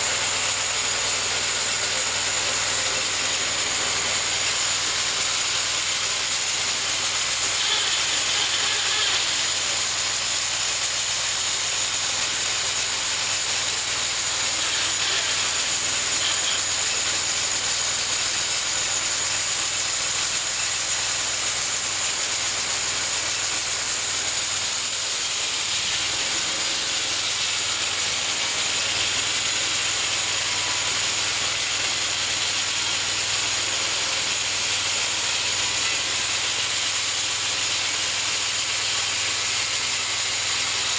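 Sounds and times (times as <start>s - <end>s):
bandsaw blade sawing log: 0.0s - 40.9s.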